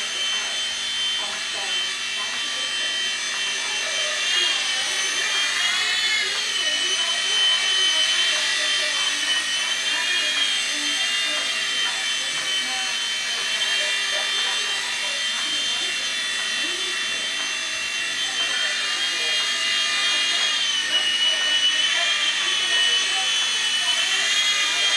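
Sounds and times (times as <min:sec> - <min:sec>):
rc helicopter motor whine: 0:00.0 - 0:24.9.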